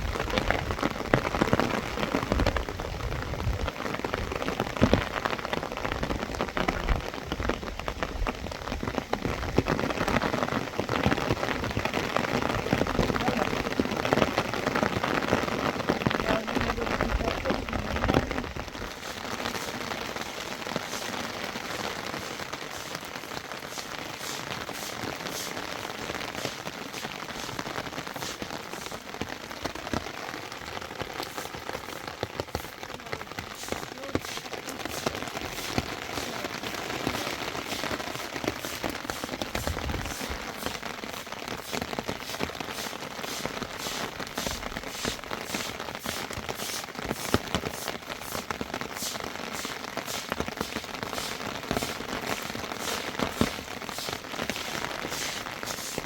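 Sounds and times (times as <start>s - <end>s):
rain falling: 0.0s - 56.0s
raindrops hitting surfaces: 0.0s - 56.0s.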